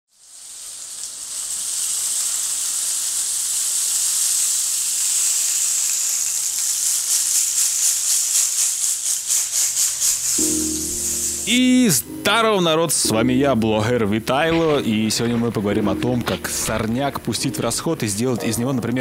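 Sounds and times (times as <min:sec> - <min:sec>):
rain stick trickling hiss: 0:00.1 - 0:19.0.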